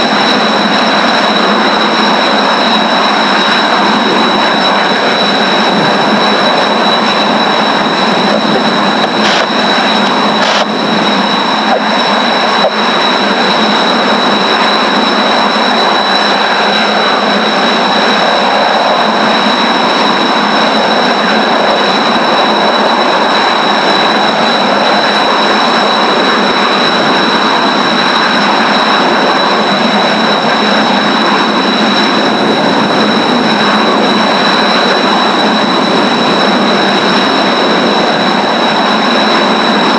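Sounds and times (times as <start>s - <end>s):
jet engines roaring with high whine: 0.0s - 39.9s.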